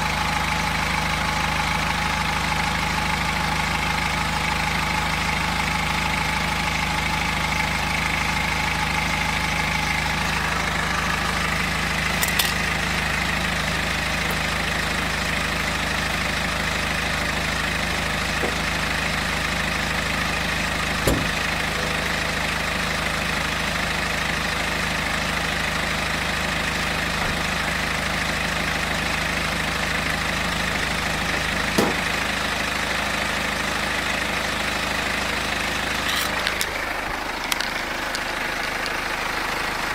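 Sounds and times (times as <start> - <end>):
diesel engine idling: 0.0 - 39.9
engine whine: 7.0 - 39.9.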